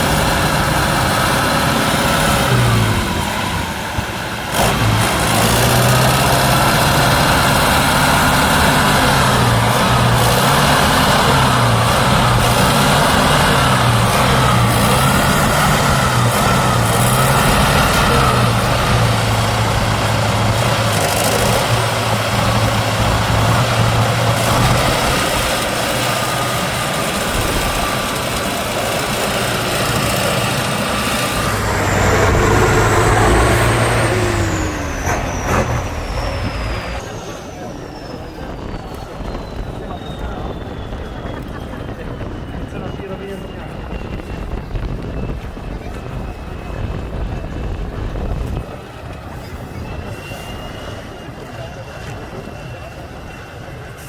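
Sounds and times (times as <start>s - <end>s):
falling whine: 0.0s - 47.3s
diesel truck engine under load: 0.0s - 54.0s.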